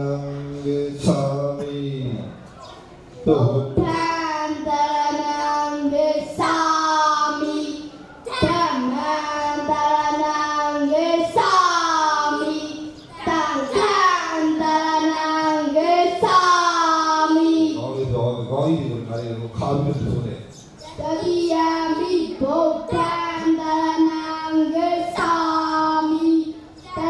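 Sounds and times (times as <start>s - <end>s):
child chanting: 2.6s - 18.1s, 20.8s - 27.0s.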